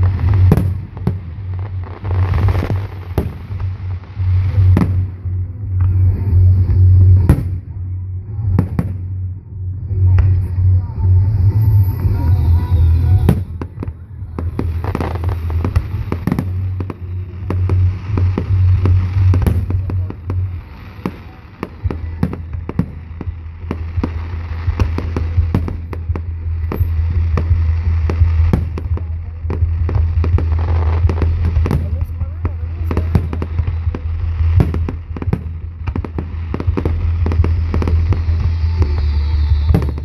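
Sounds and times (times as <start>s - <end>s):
fireworks bangs and crackling: 0.0s - 40.0s
steady low hum: 0.0s - 40.0s.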